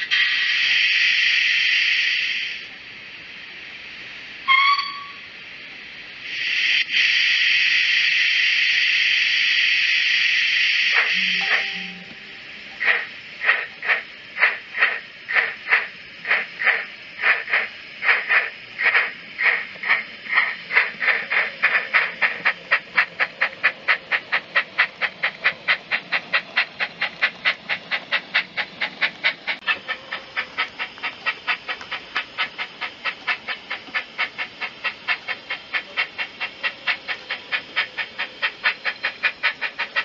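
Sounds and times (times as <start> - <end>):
model steam locomotive chuffs: 0.0 - 40.0
steam hiss: 0.0 - 40.0.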